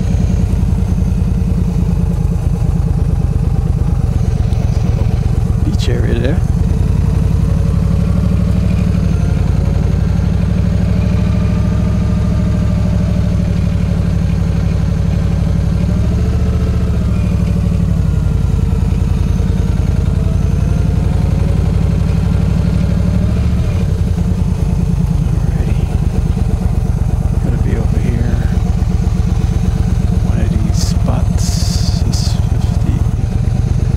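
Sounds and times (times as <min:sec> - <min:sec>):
motorcycle engine at low speed: 0:00.0 - 0:33.9.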